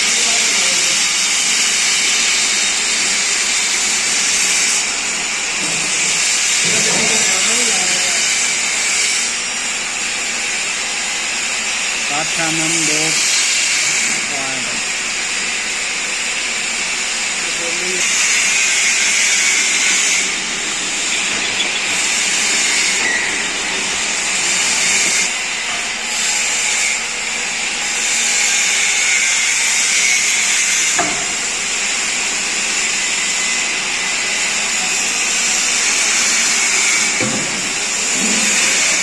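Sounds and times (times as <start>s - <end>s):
hissing metalworking noise: 0.0s - 39.0s.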